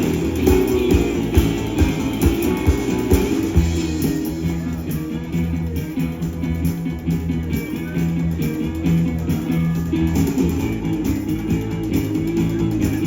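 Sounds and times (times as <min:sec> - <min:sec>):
bass line: 0:00.0 - 0:13.0
drums: 0:00.0 - 0:13.0
electric guitar: 0:00.0 - 0:13.0.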